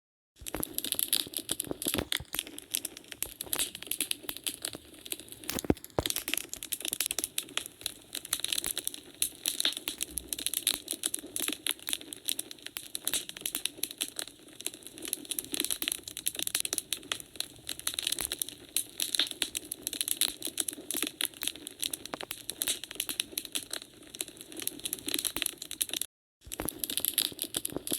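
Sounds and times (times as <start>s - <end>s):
wood fire crackling and popping: 0.4s - 27.9s.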